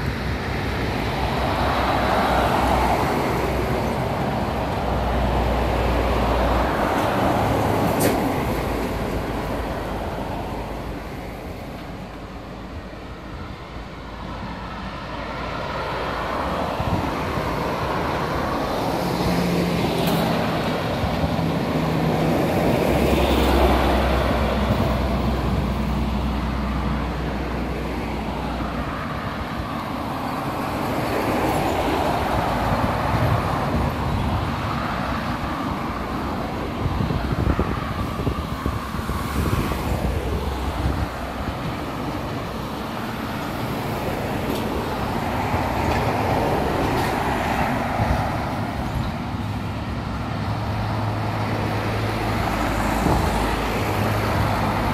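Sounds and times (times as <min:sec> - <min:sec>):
cars and truck passing: 0:00.0 - 0:54.9
wind rumbling on microphone: 0:00.0 - 0:54.9.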